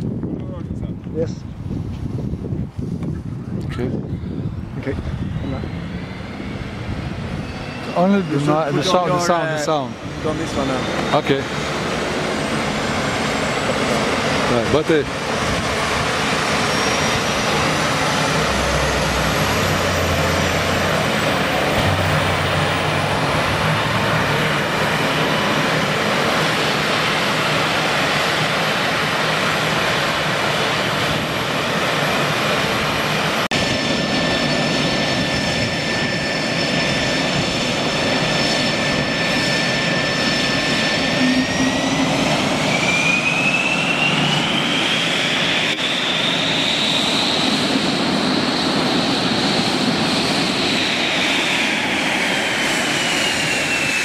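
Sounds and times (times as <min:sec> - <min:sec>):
high turbine whine: 0:00.0 - 0:54.0
jet engine rumble: 0:00.0 - 0:54.0.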